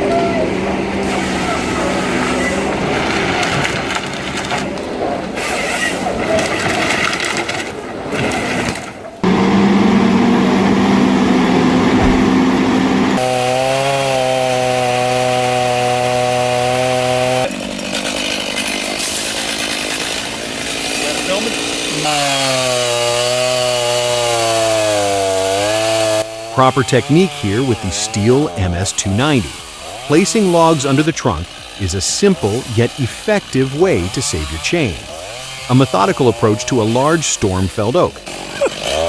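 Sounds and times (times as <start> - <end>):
chainsaw cutting wood: 0.1 - 39.0.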